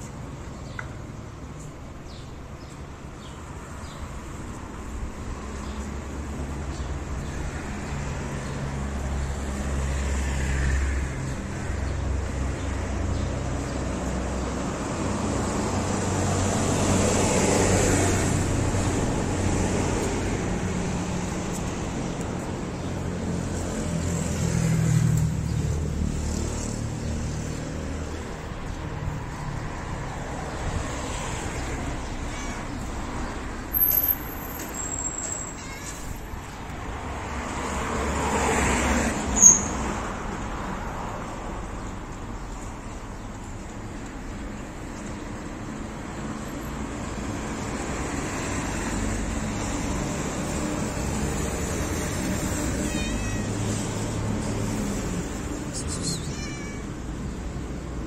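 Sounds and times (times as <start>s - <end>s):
cars passing: 0.0s - 58.0s
traffic rumble: 0.0s - 58.0s.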